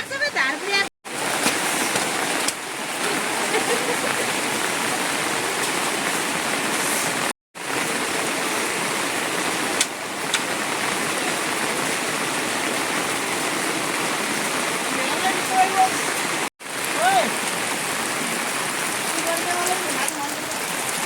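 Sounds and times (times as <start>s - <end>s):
heavy rain rushing: 0.0s - 21.0s.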